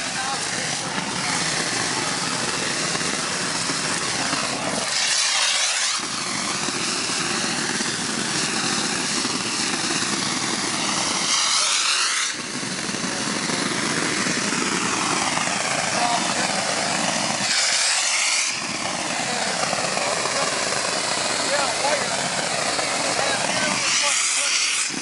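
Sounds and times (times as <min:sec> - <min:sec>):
machine engine running: 0:00.0 - 0:25.0.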